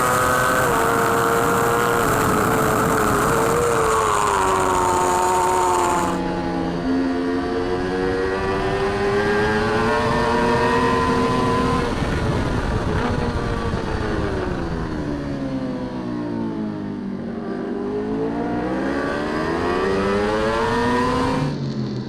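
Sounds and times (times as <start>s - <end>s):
racing motorcycle engine: 0.0s - 22.0s.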